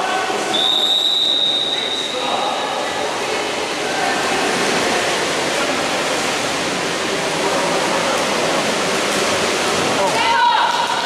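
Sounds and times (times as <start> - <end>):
water splashing in pool: 0.0 - 11.0.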